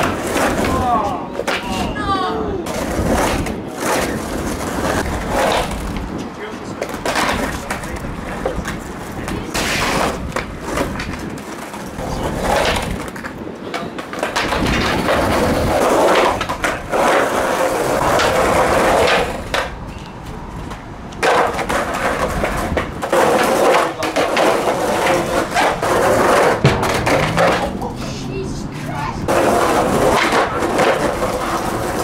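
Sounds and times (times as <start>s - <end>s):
skateboard clacking on ground: 0.0s - 32.0s
skateboard wheels rolling on concrete: 0.0s - 32.0s.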